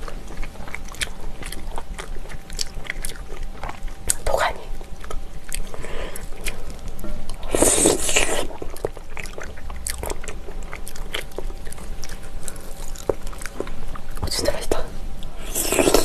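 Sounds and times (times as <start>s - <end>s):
wet chewing and biting: 0.0s - 14.3s.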